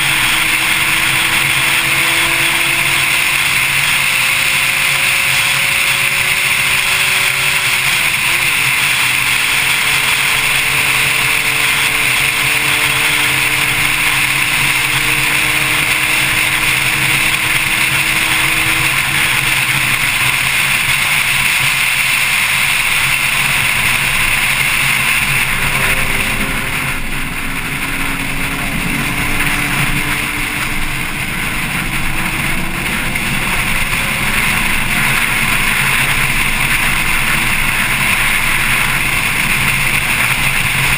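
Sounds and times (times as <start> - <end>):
car engine at speed: 0.0 - 40.9
wind and road noise: 0.0 - 40.9.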